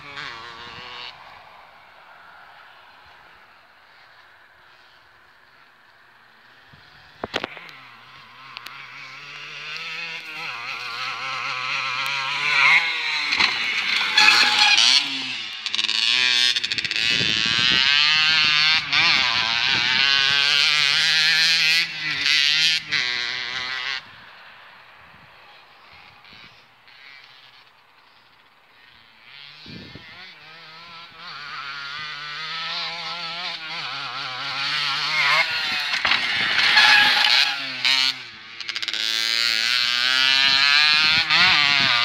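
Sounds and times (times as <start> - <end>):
dirt bike engine revving: 0.0 - 1.6, 2.3 - 42.0.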